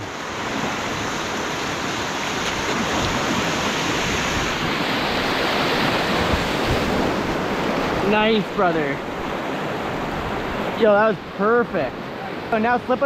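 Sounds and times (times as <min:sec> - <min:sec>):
waves crashing: 0:00.0 - 0:13.0
whitewater rapids rushing: 0:00.0 - 0:13.0.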